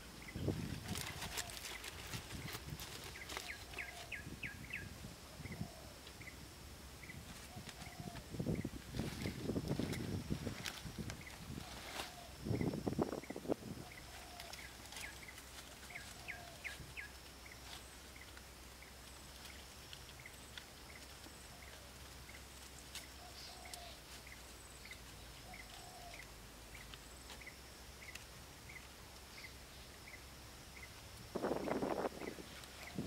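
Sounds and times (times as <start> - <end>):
bird chirping: 0.0 - 6.4, 11.1 - 22.5, 23.1 - 33.0
high insect drone: 0.0 - 33.0.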